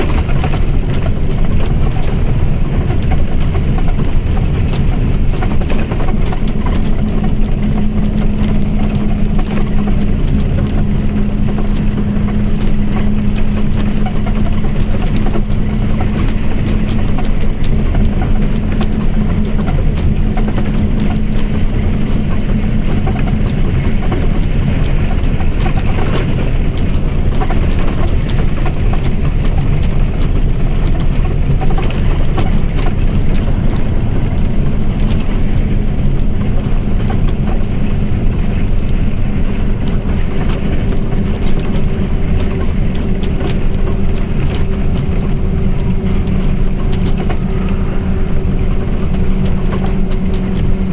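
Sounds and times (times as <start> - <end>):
bus engine running: 0.0 - 50.9.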